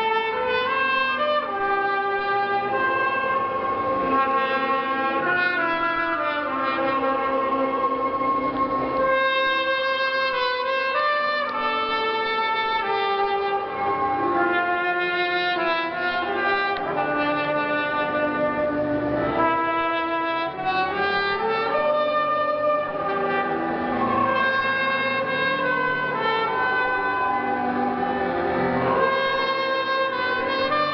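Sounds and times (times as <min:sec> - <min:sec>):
clarinet melody: 0:00.0 - 0:30.9.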